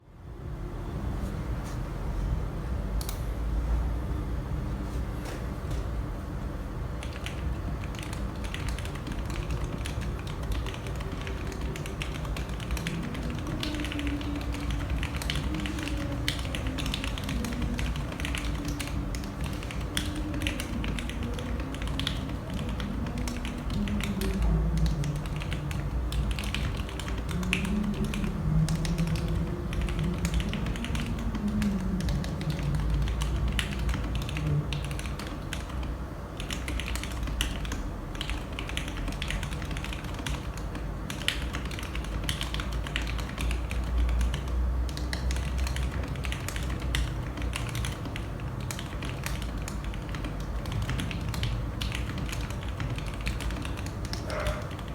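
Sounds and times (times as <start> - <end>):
mechanical keyboard typing: 7.0 - 54.9.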